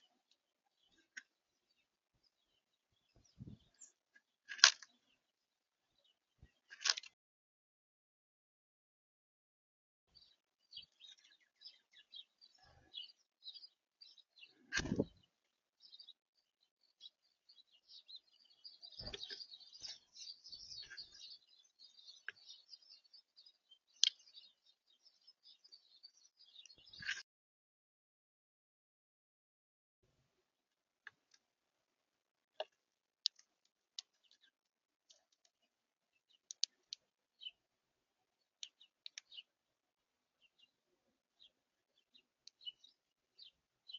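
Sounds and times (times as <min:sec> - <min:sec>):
small birds chirping: 0:00.0 - 0:07.2, 0:10.1 - 0:27.2, 0:31.0 - 0:43.9.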